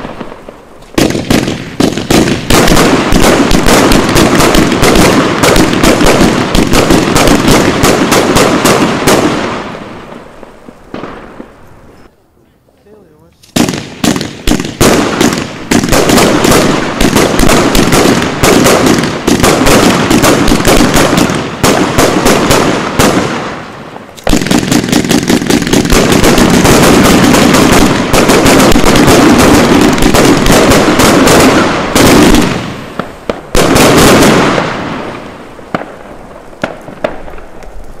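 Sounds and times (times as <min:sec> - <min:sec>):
firework cake firing: 0:00.0 - 0:12.1, 0:13.3 - 0:38.0.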